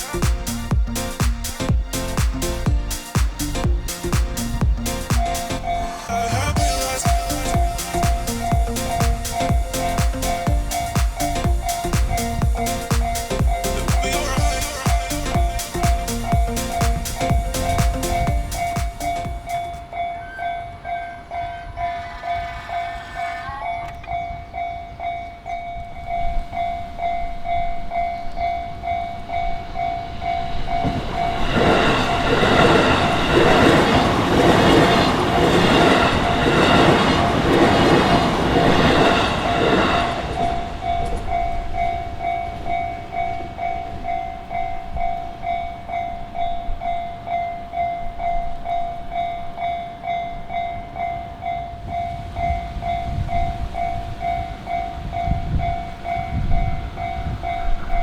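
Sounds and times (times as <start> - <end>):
level-crossing alarm ringing: 4.8 - 58.0.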